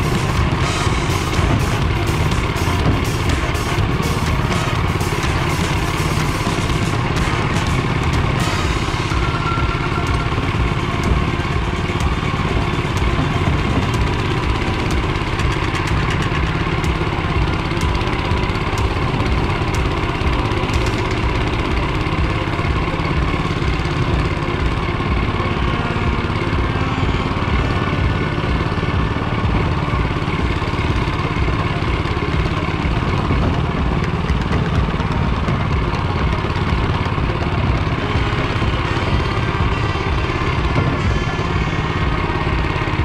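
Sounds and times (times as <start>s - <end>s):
small engine running steadily: 0.0s - 43.0s.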